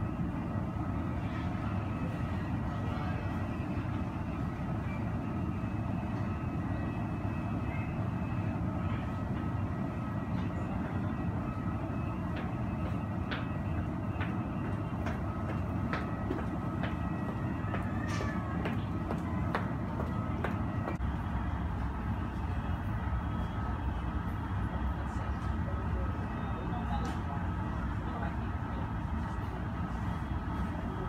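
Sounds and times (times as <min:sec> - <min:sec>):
airport noise through window: 0:00.0 - 0:31.0
faint steady whine: 0:00.0 - 0:31.0.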